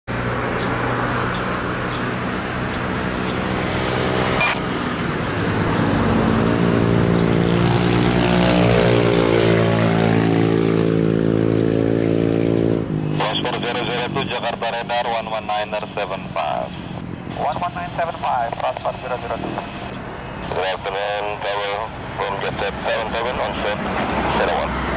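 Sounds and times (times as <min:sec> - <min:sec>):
jet engines whining: 0:00.1 - 0:11.7, 0:12.8 - 0:24.9.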